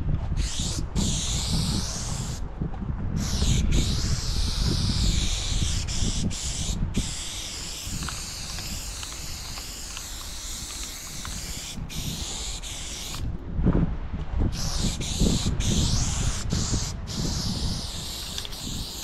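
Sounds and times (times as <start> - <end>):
spray paint can hissing: 0.4 - 2.4, 3.2 - 13.3, 14.6 - 19.0.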